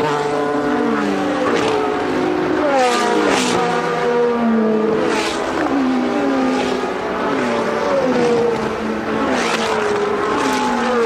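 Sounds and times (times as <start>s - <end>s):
racing cars passing by: 0.0s - 11.0s.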